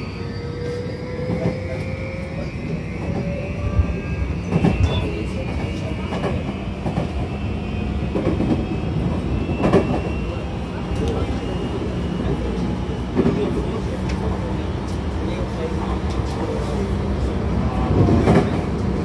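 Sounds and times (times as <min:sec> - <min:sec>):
low train rumble: 0:00.0 - 0:19.0.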